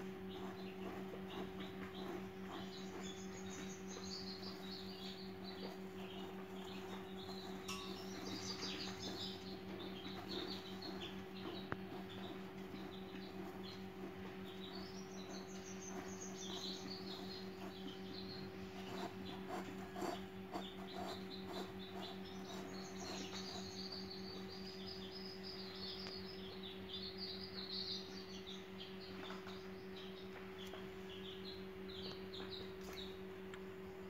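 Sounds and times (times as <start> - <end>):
low hum: 0.0 - 34.0
small birds chirping: 0.0 - 34.0.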